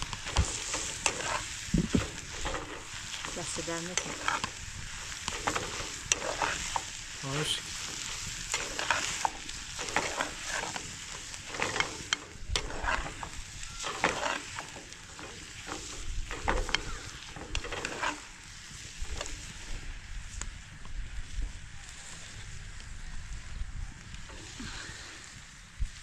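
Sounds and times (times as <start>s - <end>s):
crackling and rustling: 0.0s - 26.0s.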